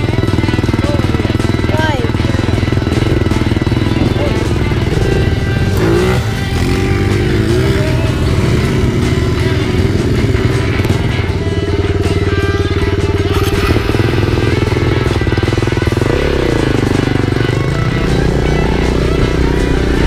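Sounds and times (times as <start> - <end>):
dirt bike engines idling: 0.0 - 20.0.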